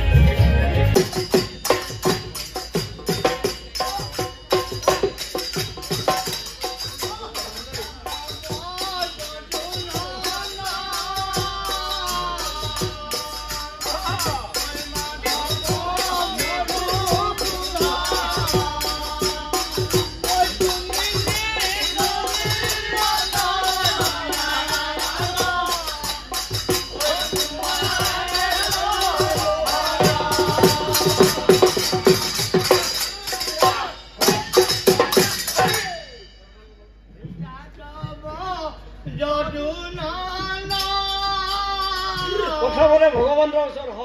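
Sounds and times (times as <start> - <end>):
dhol drum strokes: 0.0 - 43.6
small brass hand cymbals clinking: 1.0 - 36.9
men singing: 3.8 - 36.0, 37.3 - 44.0.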